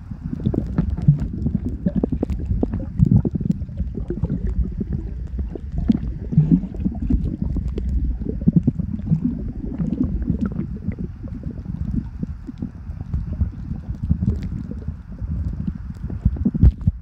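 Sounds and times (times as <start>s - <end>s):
low underwater rumble: 0.0s - 17.0s
small underwater clicks and knocks: 0.3s - 17.0s.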